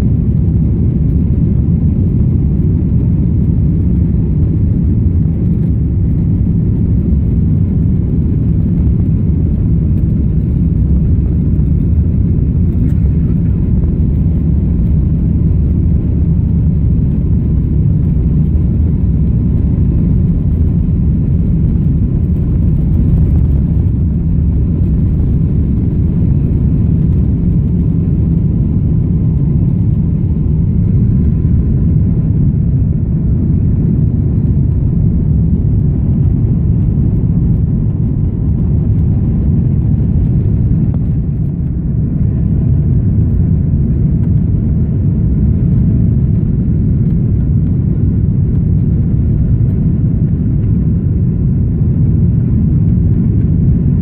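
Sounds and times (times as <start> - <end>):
jet engines low rumble: 0.0 - 54.0.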